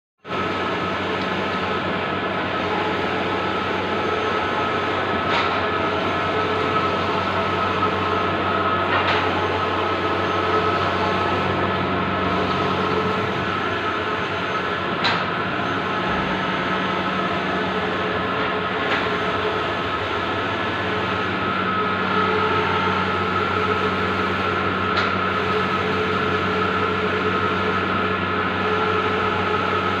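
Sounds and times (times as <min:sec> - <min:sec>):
printer running with whine: 0:00.2 - 0:30.0.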